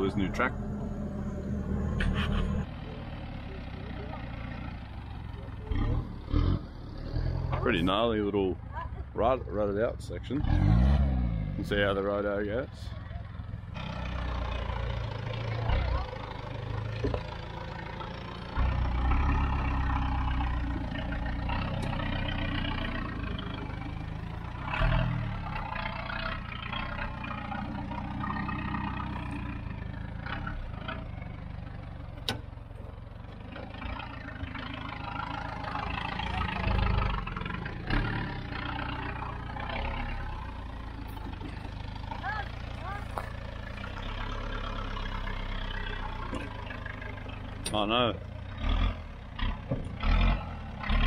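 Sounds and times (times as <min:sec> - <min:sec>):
truck engine revving: 0:00.0 - 0:08.3, 0:10.3 - 0:12.5, 0:13.7 - 0:32.4, 0:33.2 - 0:51.0.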